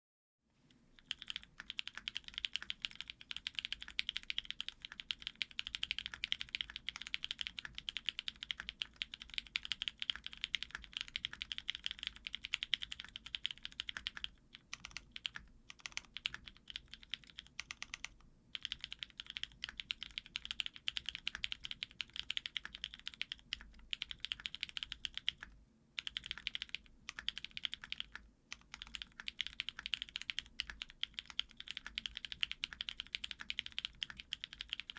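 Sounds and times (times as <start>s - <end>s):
mechanical keyboard typing: 1.0s - 34.9s.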